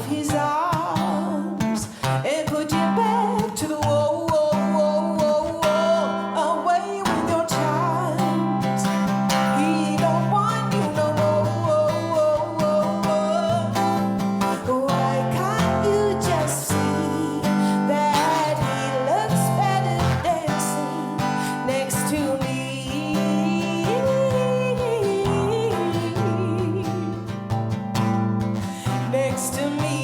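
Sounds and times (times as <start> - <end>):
person singing: 0.0 - 27.8, 28.6 - 30.0
strummed acoustic guitar: 0.0 - 30.0.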